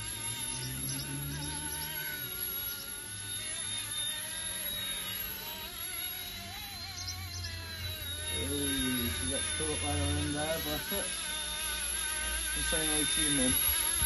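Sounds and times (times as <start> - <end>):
rc helicopter whine: 0.0 - 14.0.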